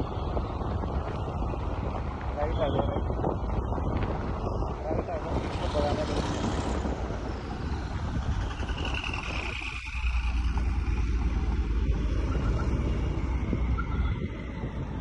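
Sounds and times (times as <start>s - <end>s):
car engine rumbling low: 0.0s - 15.0s.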